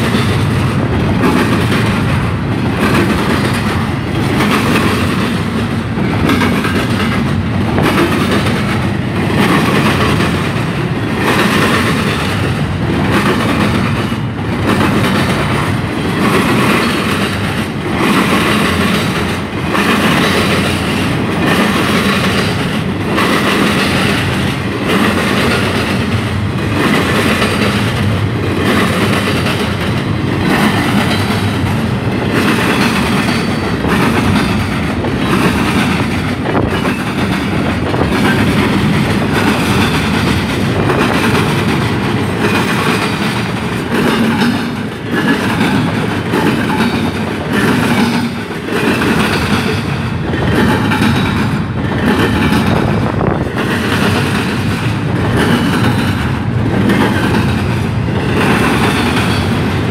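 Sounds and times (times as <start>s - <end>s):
train rumble: 0.0s - 59.9s
train wheels clacking over rail joints: 0.0s - 59.9s.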